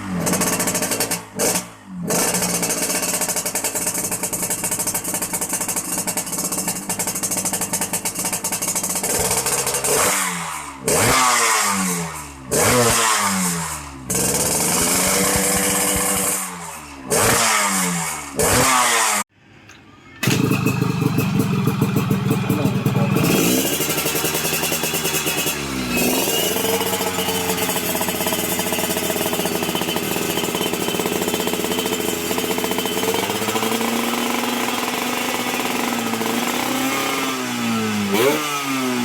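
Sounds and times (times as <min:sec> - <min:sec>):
motorcycle engine revving: 0:00.0 - 0:19.3, 0:20.2 - 0:39.0.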